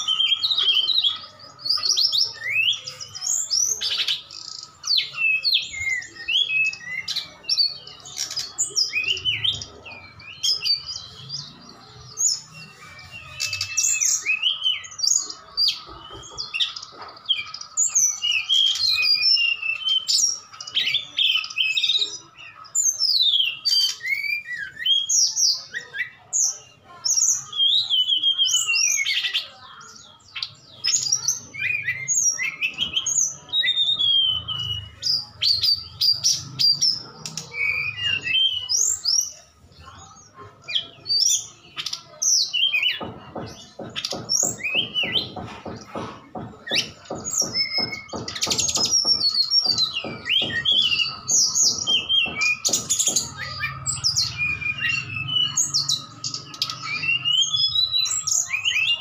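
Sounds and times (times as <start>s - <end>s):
birds singing whistled phrases: 0.0s - 59.0s.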